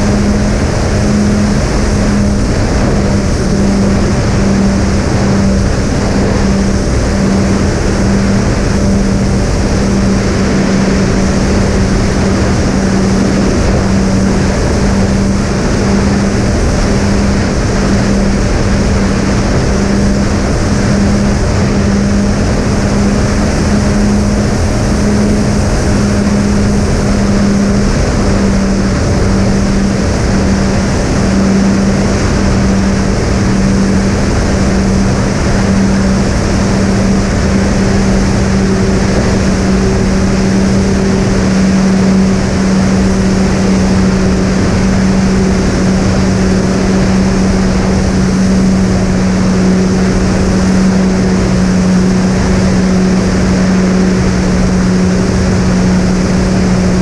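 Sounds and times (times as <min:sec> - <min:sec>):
electric motors humming: 0:00.0 - 0:57.0
wind rush: 0:00.0 - 0:57.0.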